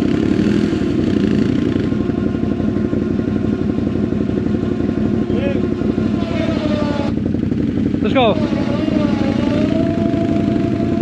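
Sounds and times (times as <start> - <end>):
atv engine running at low revs: 0.0 - 11.0.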